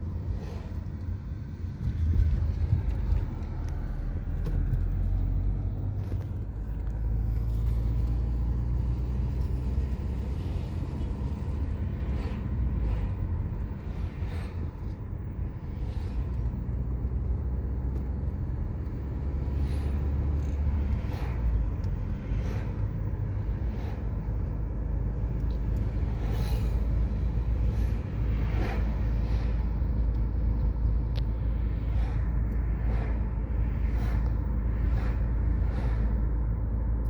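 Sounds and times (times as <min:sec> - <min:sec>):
heavy low rumble: 0:00.0 - 0:37.0.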